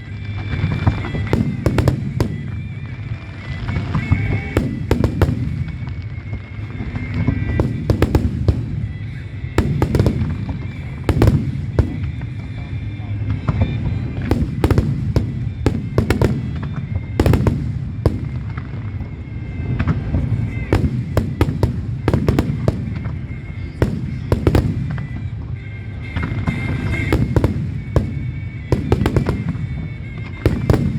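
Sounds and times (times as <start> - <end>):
fireworks bursting: 0.0 - 30.9
low rumble of explosions: 0.0 - 30.9.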